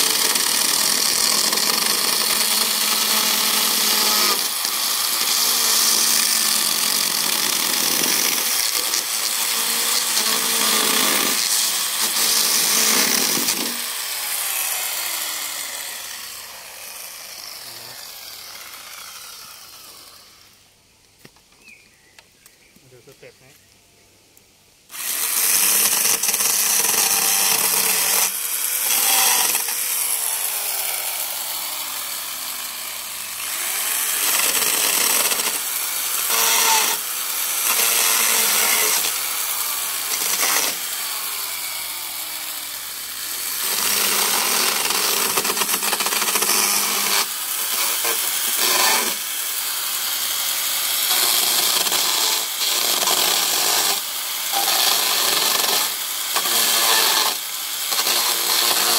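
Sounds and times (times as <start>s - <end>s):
chainsaw cutting bamboo: 0.0s - 20.6s, 24.9s - 58.9s.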